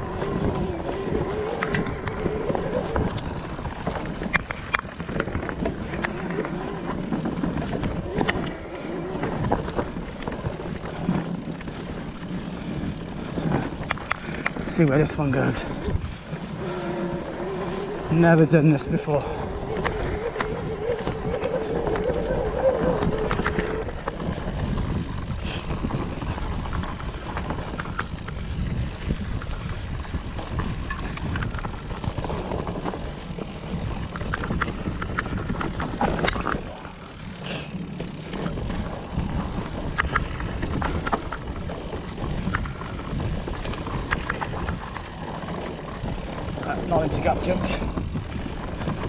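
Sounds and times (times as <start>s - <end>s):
bike clicking and rattling: 0.0s - 49.0s
tyres rumbling on dirt: 0.0s - 49.0s
wind on microphone: 0.0s - 49.0s.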